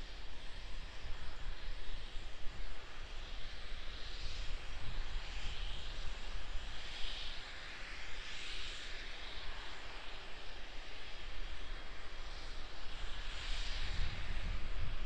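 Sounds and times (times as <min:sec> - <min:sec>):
distant hiss of venting vapour: 0:00.0 - 0:15.0.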